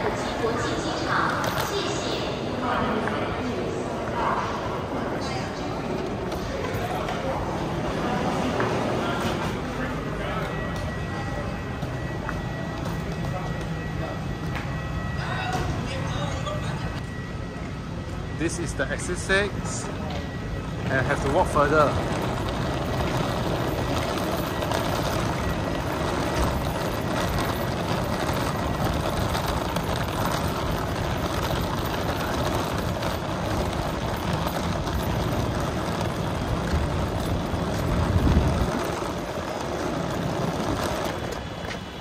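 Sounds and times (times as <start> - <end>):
suitcase wheels rolling on concrete: 0.0 - 42.0.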